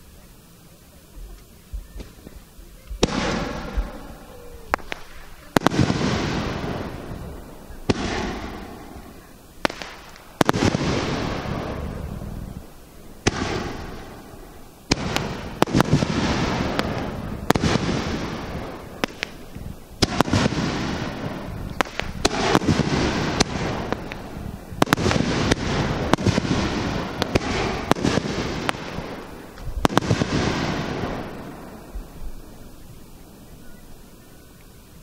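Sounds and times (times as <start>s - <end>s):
crackling hiss of fireworks: 0.0s - 35.0s
fireworks bangs: 1.2s - 32.9s.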